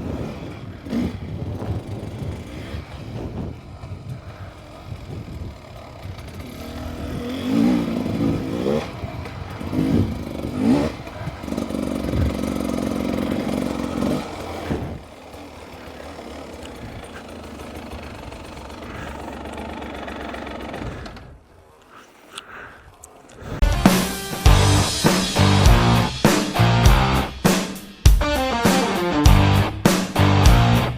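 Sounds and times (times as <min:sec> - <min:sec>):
dirt bike engine revving: 0:00.0 - 0:21.4, 0:23.5 - 0:30.9.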